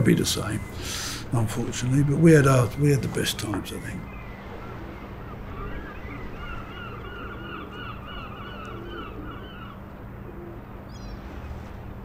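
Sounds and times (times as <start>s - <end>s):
gull calling: 0.0s - 11.2s.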